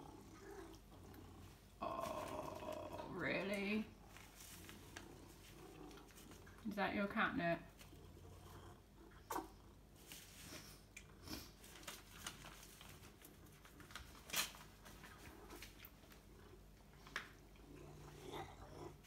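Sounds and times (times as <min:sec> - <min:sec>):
cat chewing and crunching: 0:00.0 - 0:06.7, 0:07.7 - 0:19.0.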